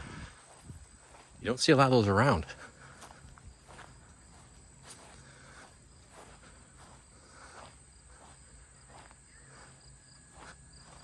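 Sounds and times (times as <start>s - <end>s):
soft scuffs: 0.0s - 1.6s, 2.2s - 11.0s
crickets chirring: 0.0s - 11.0s.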